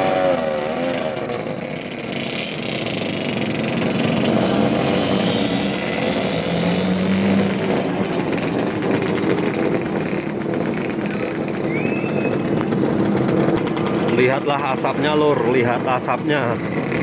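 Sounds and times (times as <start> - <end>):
two-stroke motorcycles revving: 0.0 - 17.0.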